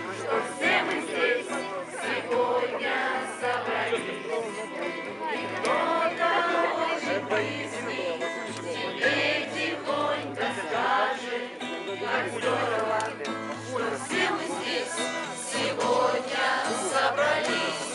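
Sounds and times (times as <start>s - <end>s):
group of people singing: 0.0s - 17.9s.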